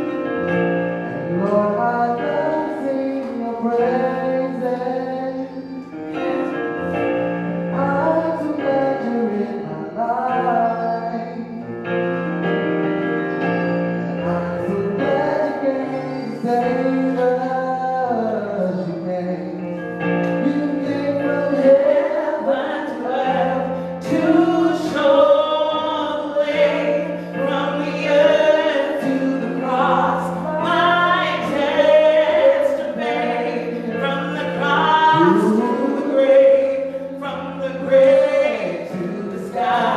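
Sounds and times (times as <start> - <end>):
woman and man singing: 1.3 - 5.9, 7.8 - 11.7, 14.2 - 19.6, 20.2 - 39.9.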